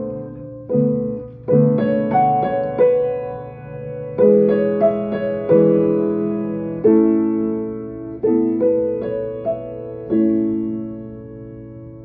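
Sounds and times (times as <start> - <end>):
solo piano chords: 0.0 - 12.0.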